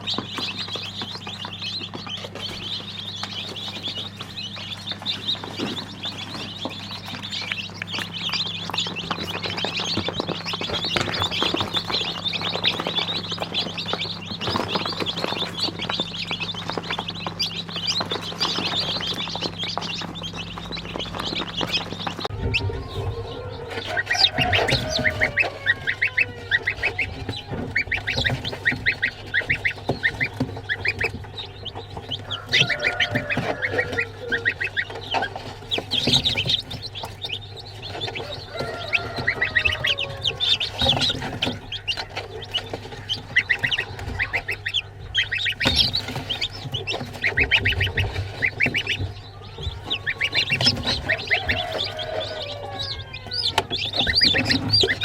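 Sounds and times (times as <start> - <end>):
chickens chirping: 0.0 - 55.0
chickens clucking and calling: 0.0 - 55.0.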